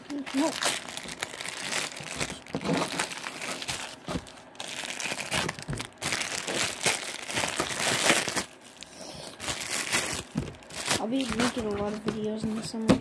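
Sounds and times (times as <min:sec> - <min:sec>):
slime crackling and popping: 0:00.1 - 0:11.6.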